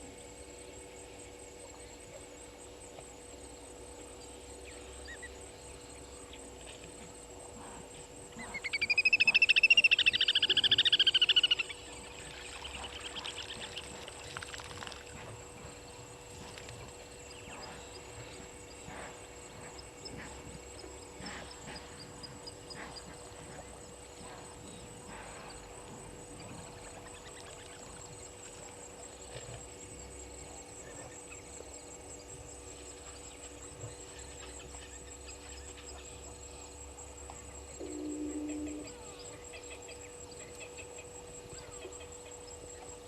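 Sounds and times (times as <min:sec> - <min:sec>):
insects trilling: 0:00.0 - 0:43.0
low hum: 0:00.0 - 0:43.0.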